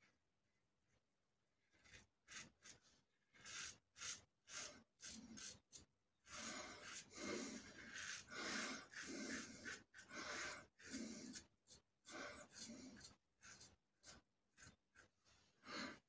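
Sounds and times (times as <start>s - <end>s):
razor scraping stubble: 1.7s - 15.2s.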